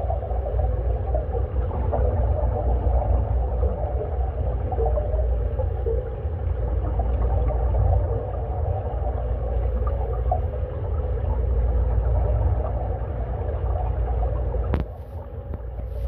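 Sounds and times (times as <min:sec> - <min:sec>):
faint steady hum: 0:00.0 - 0:16.0
underwater low rumble: 0:00.0 - 0:16.0.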